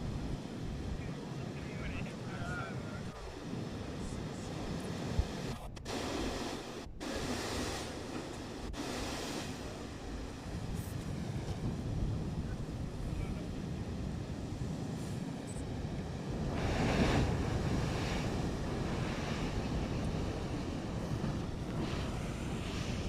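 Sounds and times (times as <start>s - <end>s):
waves surging and breaking: 0.0s - 23.0s
wind on microphone: 0.0s - 23.0s.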